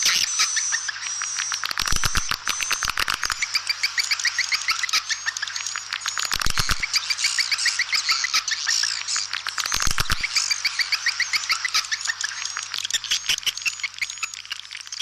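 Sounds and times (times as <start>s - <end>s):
swiftlets twittering and clicking: 0.0s - 15.0s.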